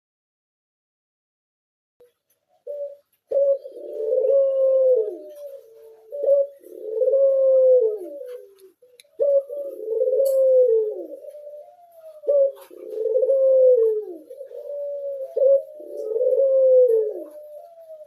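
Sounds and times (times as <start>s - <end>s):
dove cooing: 2.0s - 18.0s.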